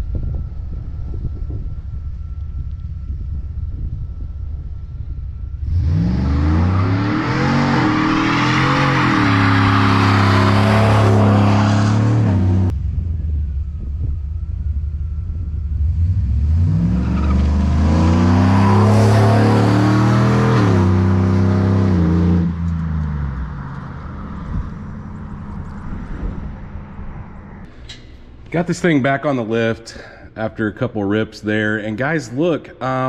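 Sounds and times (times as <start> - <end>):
pickup engine at full throttle: 0.0 - 27.1.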